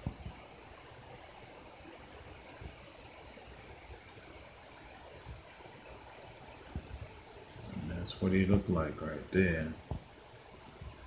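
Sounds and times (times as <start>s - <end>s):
room tone hiss: 0.0s - 11.0s.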